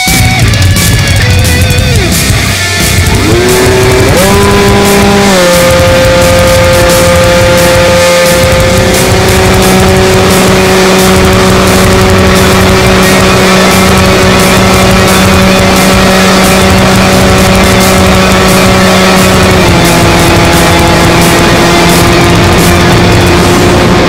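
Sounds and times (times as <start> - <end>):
electric motor whine: 2.8 - 24.0.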